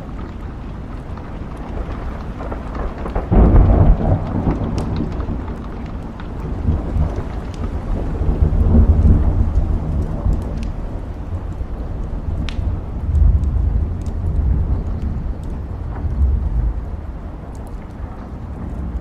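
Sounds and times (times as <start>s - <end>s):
small sharp crackles: 0.0s - 19.0s
steady rain: 0.0s - 19.0s
thunder rumbling: 0.0s - 19.0s.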